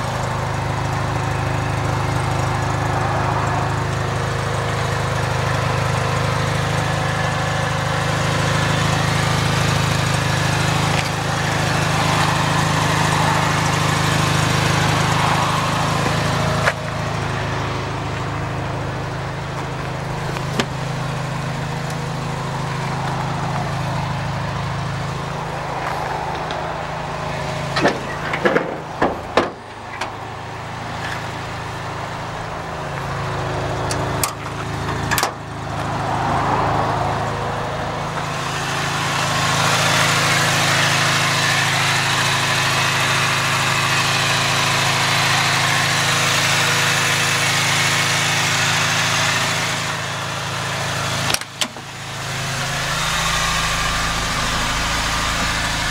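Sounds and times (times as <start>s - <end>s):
small engine idling: 0.0s - 55.9s.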